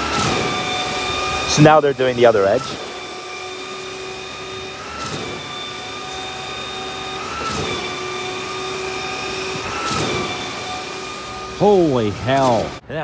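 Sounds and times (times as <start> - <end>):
construction machinery whining: 0.0 - 13.0.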